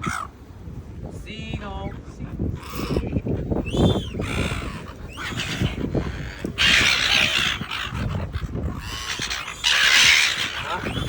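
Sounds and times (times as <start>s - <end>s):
seagulls squawking: 0.0s - 0.4s, 1.7s - 11.0s.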